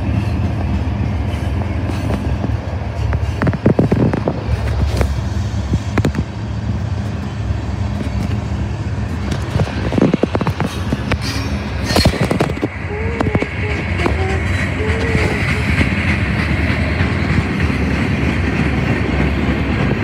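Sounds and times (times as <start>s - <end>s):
freight train rumbling by: 0.0s - 20.0s.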